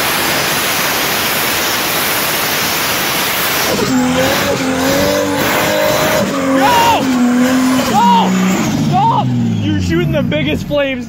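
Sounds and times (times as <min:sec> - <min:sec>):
car burnout engine roaring: 0:00.0 - 0:11.0.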